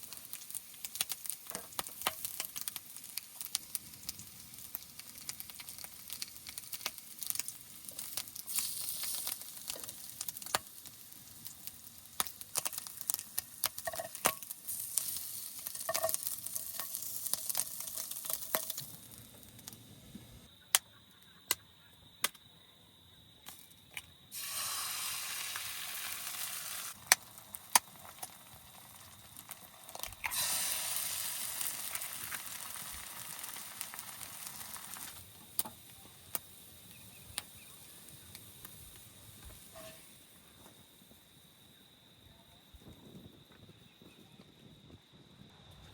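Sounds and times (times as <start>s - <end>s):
food sizzling in a pan: 0.0s - 20.4s, 24.3s - 41.2s.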